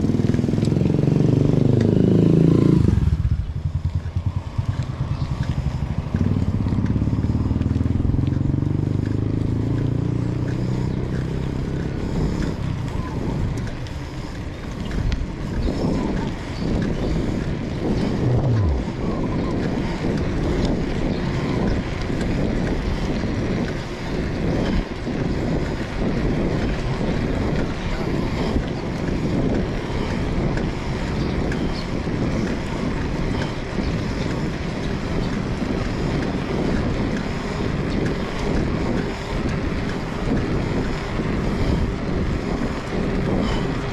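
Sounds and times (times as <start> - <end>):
vehicle engine hum: 0.0 - 43.9
wind buffeting microphone: 0.0 - 43.9.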